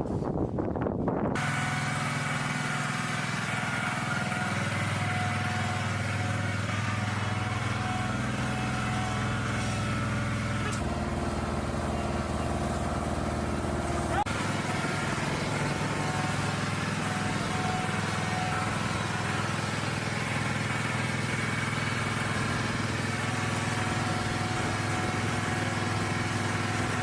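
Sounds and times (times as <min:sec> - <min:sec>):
engine drone: 0:00.0 - 0:27.0.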